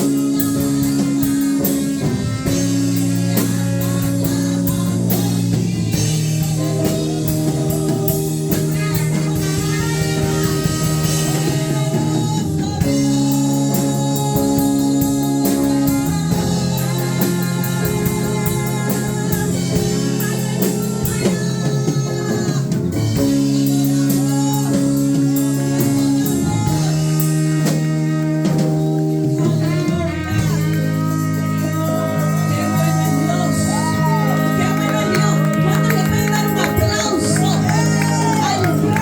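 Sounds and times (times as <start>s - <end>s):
drum kit beat: 0.0s - 39.0s
electric guitar: 0.0s - 39.0s.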